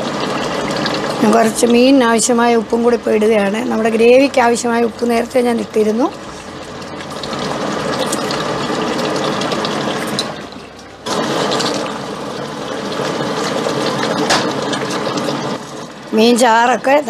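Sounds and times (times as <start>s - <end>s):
curry boiling in a pot: 0.0s - 17.0s.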